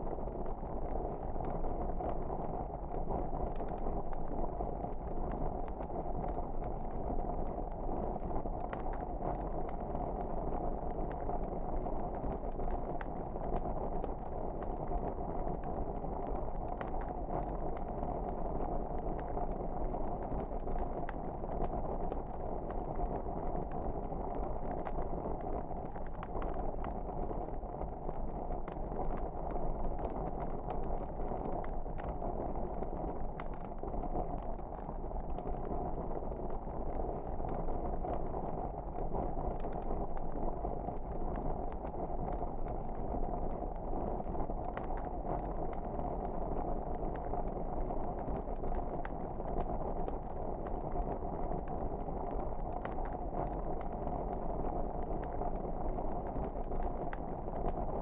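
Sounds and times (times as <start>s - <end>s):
log fire crackling: 0.0s - 58.0s.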